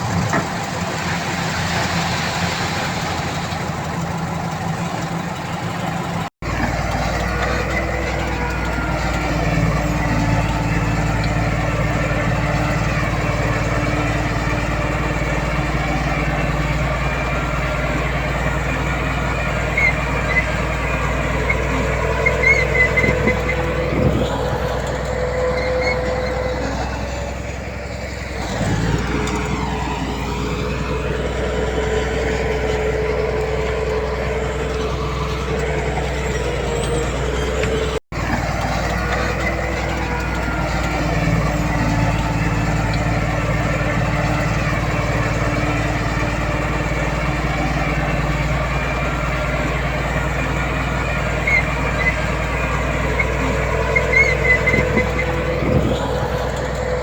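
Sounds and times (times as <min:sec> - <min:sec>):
diesel earthmoving machinery working: 0:00.0 - 0:57.0.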